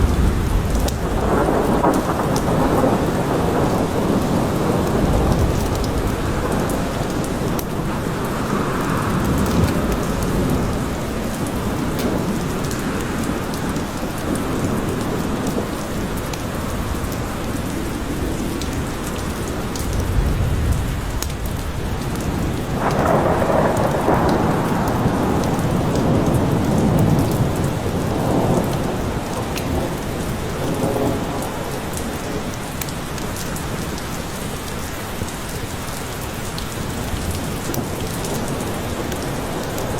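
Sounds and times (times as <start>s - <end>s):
rolling thunder: 0.0s - 32.2s
heavy rain: 0.0s - 39.9s.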